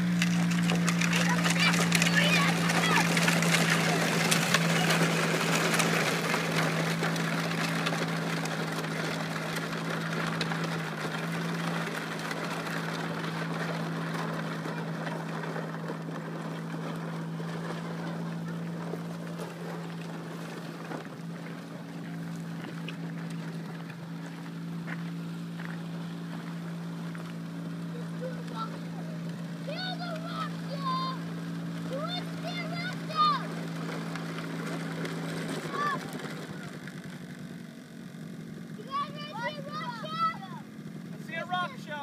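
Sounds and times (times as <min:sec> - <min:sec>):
quad engine running: 0:00.0 - 0:42.0.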